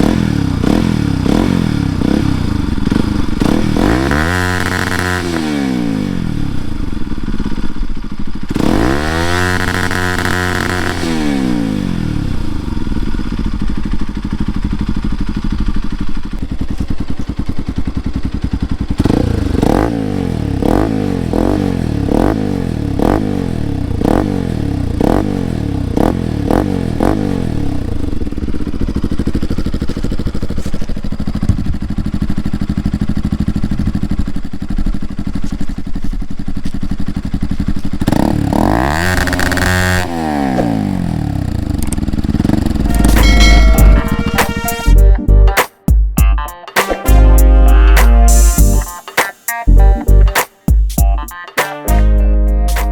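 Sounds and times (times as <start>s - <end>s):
motorcycle engine revving and idling: 0.0s - 45.1s.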